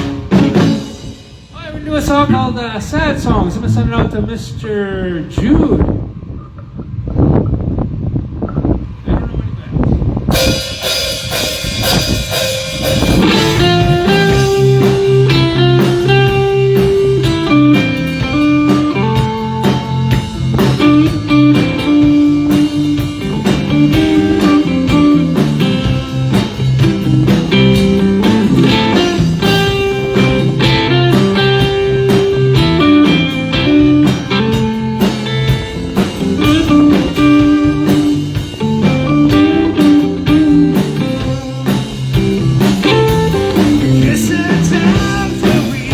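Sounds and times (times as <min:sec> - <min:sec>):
drum kit: 0:00.0 - 0:04.2, 0:10.3 - 0:45.9
guitar lines: 0:00.0 - 0:04.4, 0:10.3 - 0:45.9
bass: 0:00.0 - 0:45.9.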